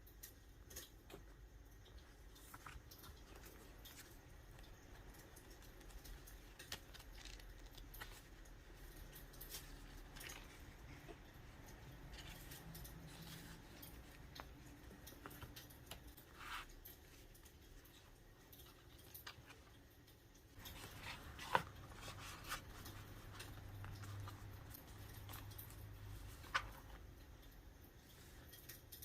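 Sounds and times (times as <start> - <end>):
paper and stickers crackling: 1.8 - 29.0.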